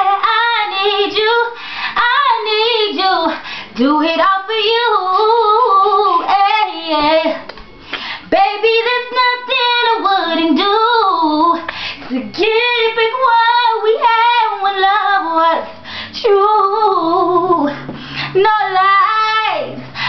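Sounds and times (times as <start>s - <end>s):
woman singing: 0.0s - 7.5s, 8.3s - 20.0s.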